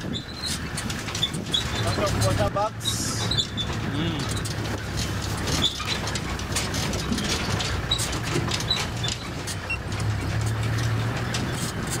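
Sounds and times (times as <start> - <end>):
knocks and rattles: 0.0 - 12.0
vehicle engine humming: 0.0 - 12.0.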